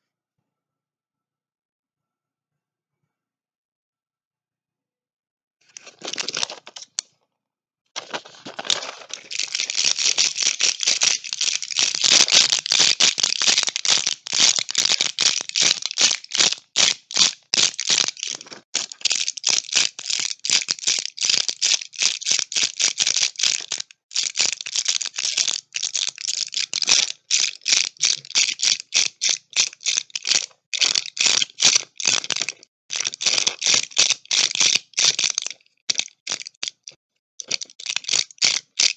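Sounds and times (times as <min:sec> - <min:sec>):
tablets rattling in packaging: 0:05.7 - 0:07.0, 0:08.0 - 0:38.9.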